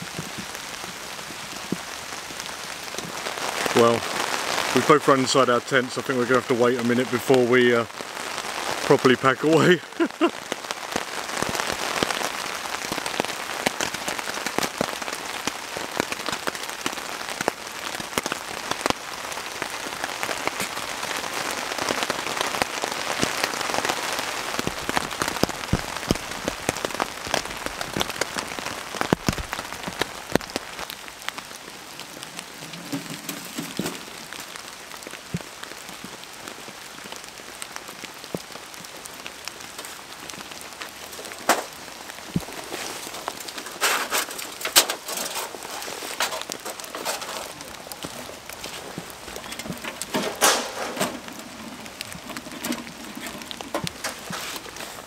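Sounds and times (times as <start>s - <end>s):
rain pattering on tent fabric: 0.0s - 55.0s.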